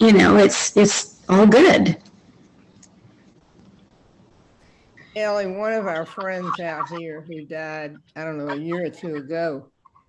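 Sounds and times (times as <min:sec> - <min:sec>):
microphone background hiss: 0:00.0 - 0:10.0.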